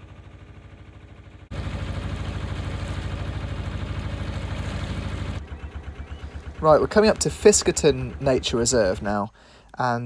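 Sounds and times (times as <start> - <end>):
boat diesel engine chugging: 0.0 - 9.6.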